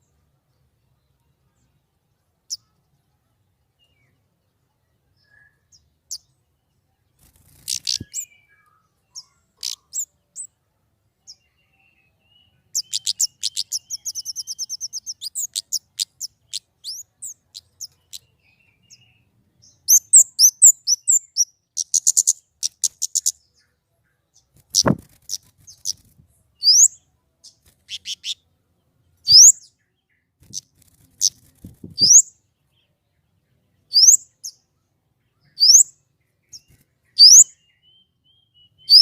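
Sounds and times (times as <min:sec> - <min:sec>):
songbird chirping and trilling: 0:00.0 - 0:39.0.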